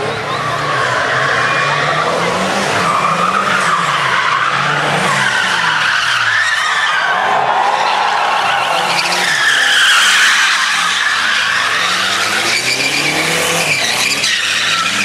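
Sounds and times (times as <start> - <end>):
car engines revving: 0.0 - 15.0
tyres squealing: 0.3 - 15.0.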